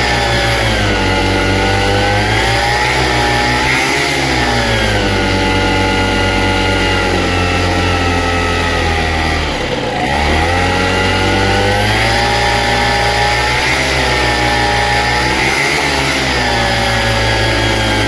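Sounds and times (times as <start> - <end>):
paramotor engine at high throttle: 0.0 - 18.0.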